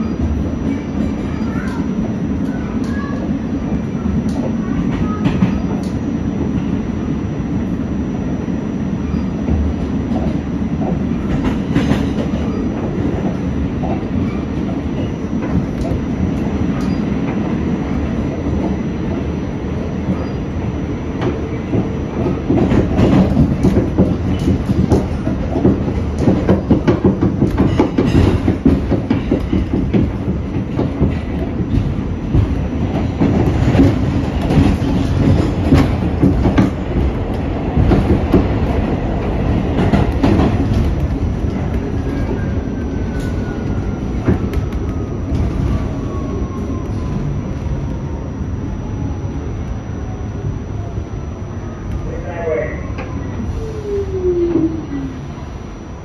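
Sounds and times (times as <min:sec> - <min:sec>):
subway wheels rumbling on rail: 0:00.0 - 0:56.0.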